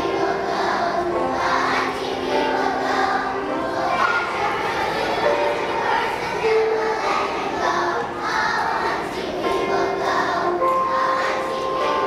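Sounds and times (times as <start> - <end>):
backing music: 0.0 - 12.0
children's choir singing: 0.0 - 12.0.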